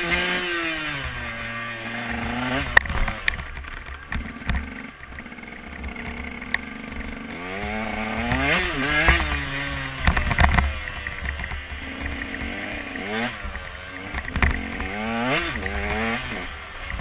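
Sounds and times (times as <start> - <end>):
two-stroke motorcycle engine revving: 0.0 - 17.0.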